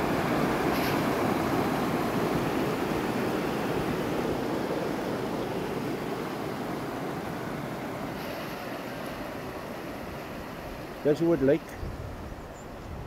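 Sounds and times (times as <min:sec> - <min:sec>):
floodwater rushing over ground: 0:00.0 - 0:12.6.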